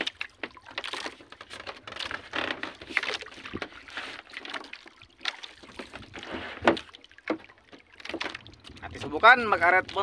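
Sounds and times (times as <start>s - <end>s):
water splashing against boat hull: 0.0s - 10.0s.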